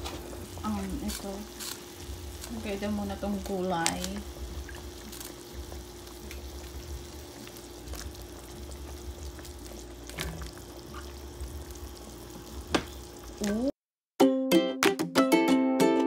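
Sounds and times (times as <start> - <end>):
broth bubbling in a pot: 0.0 - 13.7
faint hum: 0.1 - 13.7.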